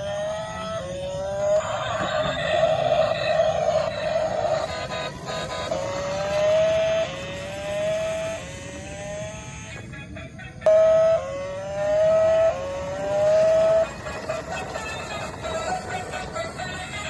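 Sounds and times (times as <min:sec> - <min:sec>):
electronic rising tone: 0:00.0 - 0:09.8, 0:10.7 - 0:17.0.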